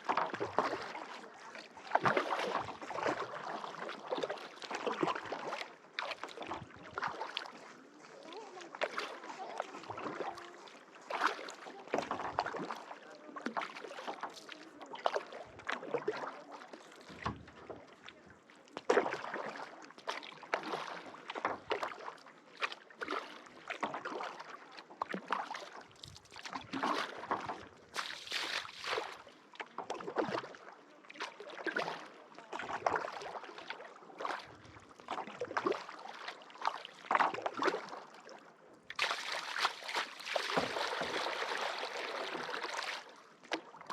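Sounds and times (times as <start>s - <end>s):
paddle splashing in water: 0.0s - 43.9s
water dripping and lapping: 0.0s - 43.9s.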